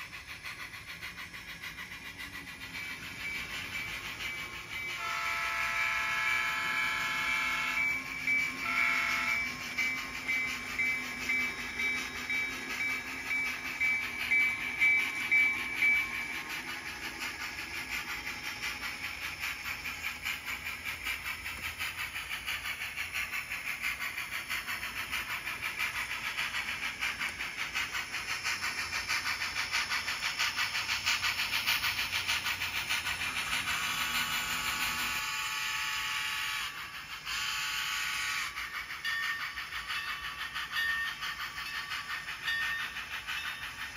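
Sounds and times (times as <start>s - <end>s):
model train wheels clicking: 0.0s - 43.9s.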